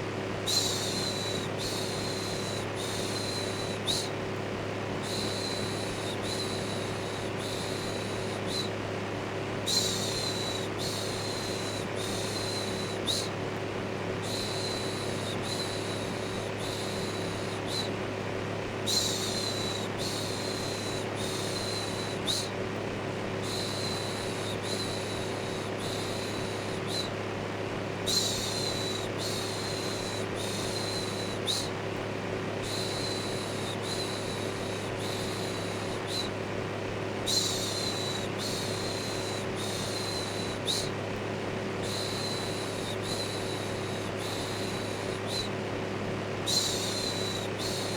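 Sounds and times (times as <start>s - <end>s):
electric fan whirring: 0.0s - 47.9s.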